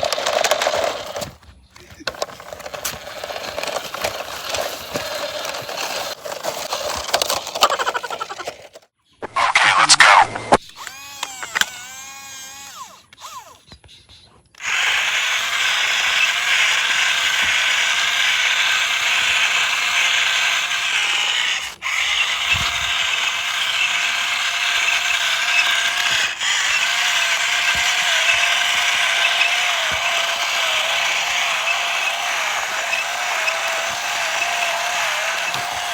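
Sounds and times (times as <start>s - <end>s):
toy car motor whirring: 0.0s - 8.9s, 9.5s - 13.7s, 14.6s - 35.9s.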